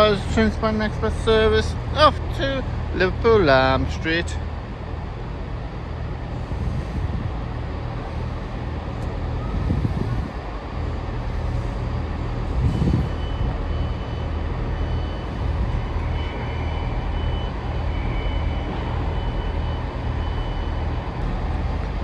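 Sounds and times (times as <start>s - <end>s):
train engines humming low: 0.0s - 22.0s.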